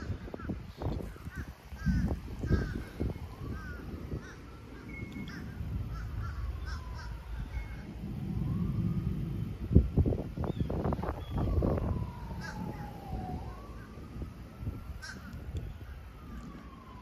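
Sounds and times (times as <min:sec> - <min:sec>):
birds calling: 0:00.0 - 0:08.0, 0:10.4 - 0:14.1, 0:14.9 - 0:16.9
wind rumble on microphone: 0:00.0 - 0:17.0.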